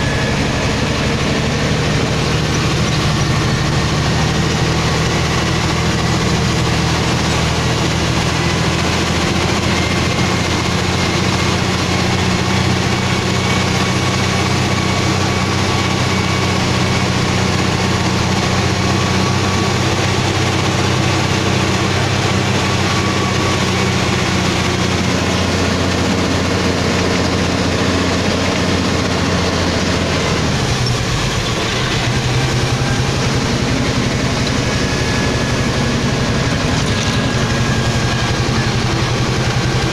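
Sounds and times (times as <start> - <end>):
diesel truck engine running: 0.0 - 39.9
road noise: 0.0 - 39.9.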